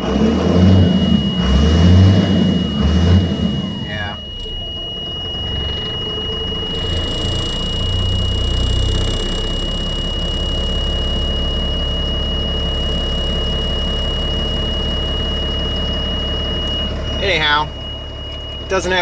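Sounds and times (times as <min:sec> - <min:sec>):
diesel truck engine idling: 0:00.0 - 0:19.0
high-pitched whine: 0:00.0 - 0:19.0.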